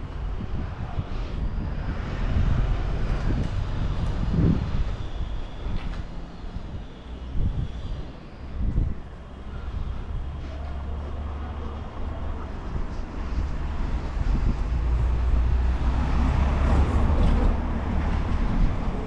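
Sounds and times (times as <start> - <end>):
low engine rumble: 0.0 - 19.0
rushing noise: 0.0 - 19.0.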